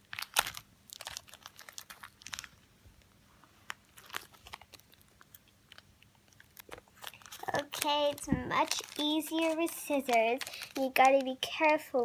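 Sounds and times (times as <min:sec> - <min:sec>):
plastic packet crinkling: 0:00.0 - 0:02.7, 0:03.7 - 0:12.0.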